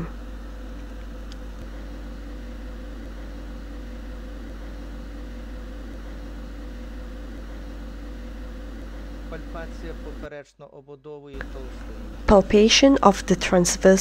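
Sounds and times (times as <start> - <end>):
electrical hum with faint hiss: 0.0 - 14.0.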